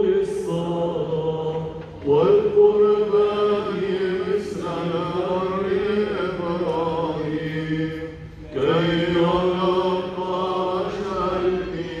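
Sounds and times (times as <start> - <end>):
person chanting: 0.0 - 12.0.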